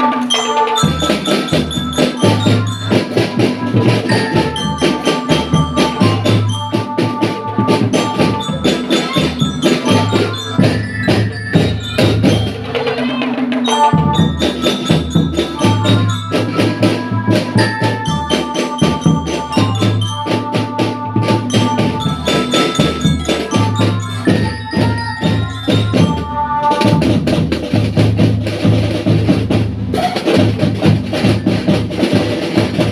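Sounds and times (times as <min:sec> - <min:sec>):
bell lyre melody: 0:00.0 - 0:27.5
marching drum band playing: 0:00.0 - 0:32.9.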